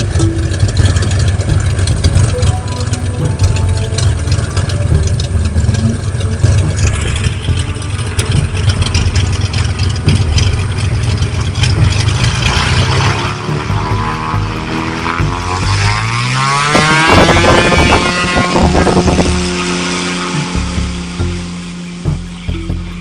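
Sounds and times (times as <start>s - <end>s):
propeller engine idling: 0.0s - 23.0s.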